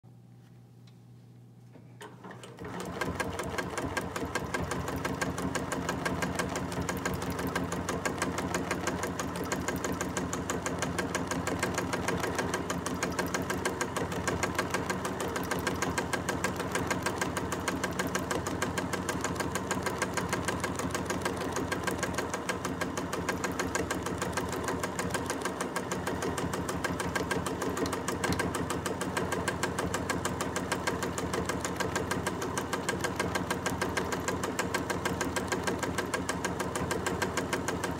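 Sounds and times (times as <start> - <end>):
sewing machine running: 2.0 - 37.9.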